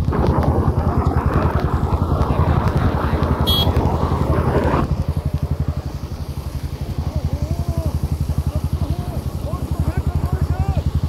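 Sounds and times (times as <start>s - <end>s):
engine idling: 0.0s - 11.0s
rushing noise: 0.0s - 11.0s.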